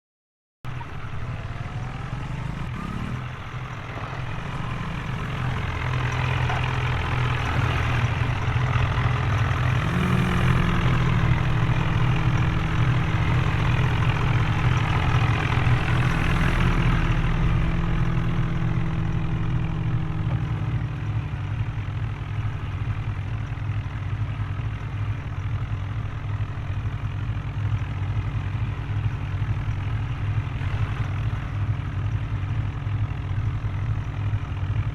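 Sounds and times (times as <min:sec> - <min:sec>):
heavy tractor engine running: 0:00.7 - 0:34.9.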